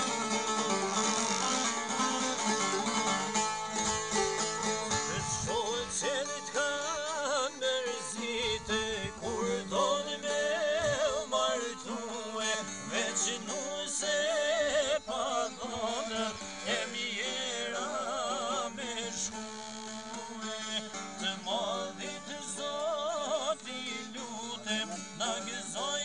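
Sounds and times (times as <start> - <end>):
plucked long-necked lutes: 0.0 - 26.0
man singing: 5.0 - 26.0.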